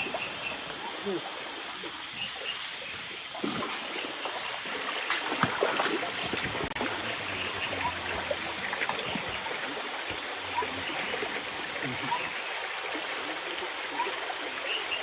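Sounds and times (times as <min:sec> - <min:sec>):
water washing: 0:00.0 - 0:15.0.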